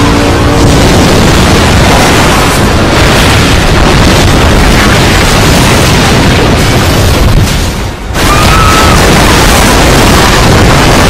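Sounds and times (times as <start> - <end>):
tsunami wave rumbling crash: 0.0 - 11.0.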